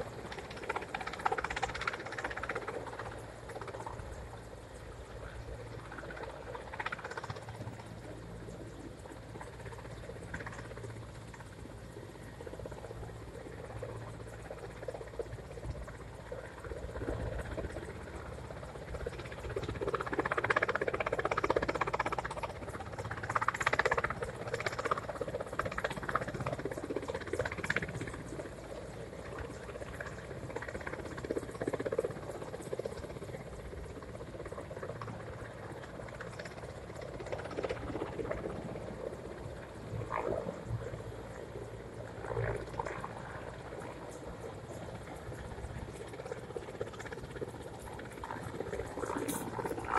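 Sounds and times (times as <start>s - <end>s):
distant helicopter rotor chopping: 0.0s - 49.9s.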